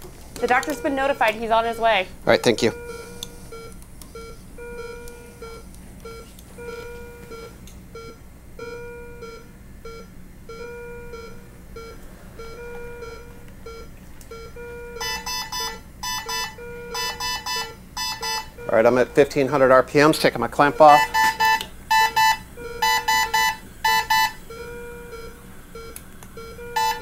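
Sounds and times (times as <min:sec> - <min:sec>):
electronic alarm beeping: 0:00.4 - 0:27.0
shrill alarm beeping: 0:00.4 - 0:27.0.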